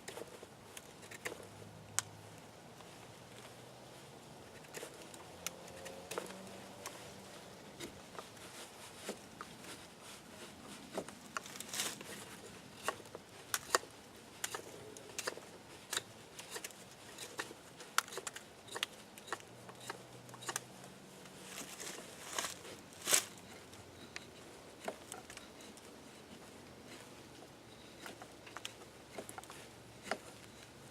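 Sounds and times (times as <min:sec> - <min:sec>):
knife shaving wood: 0:04.5 - 0:20.6, 0:21.4 - 0:30.8.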